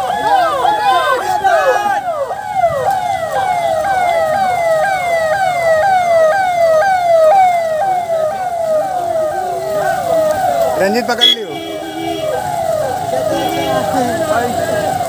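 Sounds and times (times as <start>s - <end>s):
electronic police siren: 0.0s - 15.0s.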